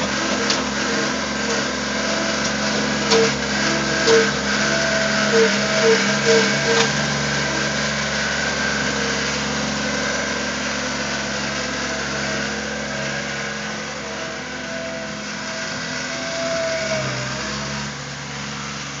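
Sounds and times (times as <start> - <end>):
skid-steer loader engine running: 0.0 - 19.0
thin wavering whine: 0.0 - 19.0.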